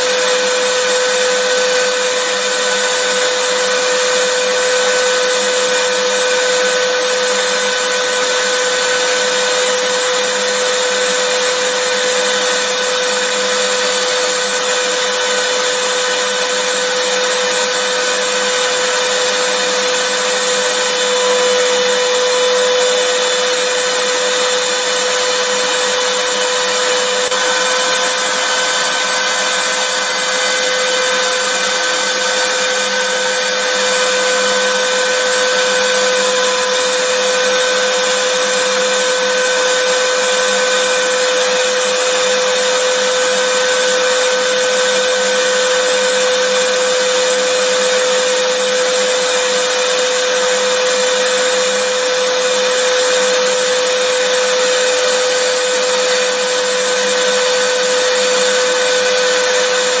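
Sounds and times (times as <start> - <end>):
vacuum cleaner motor running: 0.0 - 60.0.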